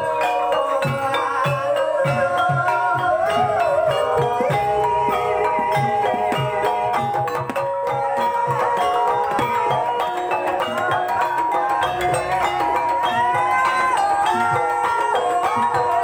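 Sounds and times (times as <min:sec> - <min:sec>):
drum beating: 0:00.0 - 0:16.0
mallet-struck keyed instruments: 0:00.0 - 0:16.0
wavering melody line: 0:00.0 - 0:16.0.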